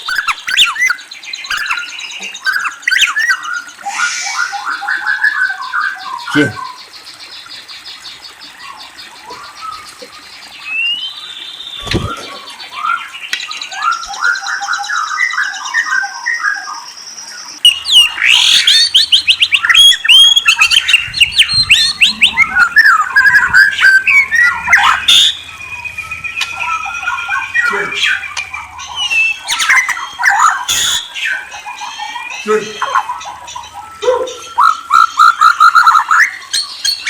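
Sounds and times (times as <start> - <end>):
songbird singing whistles and trills: 0.0 - 6.9, 10.5 - 37.0.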